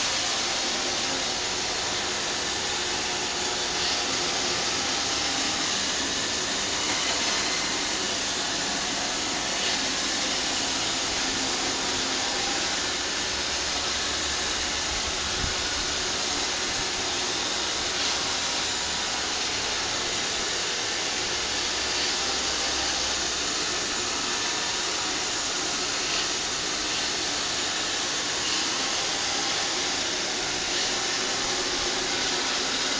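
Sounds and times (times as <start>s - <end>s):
robot vacuum whirring: 0.0s - 32.9s.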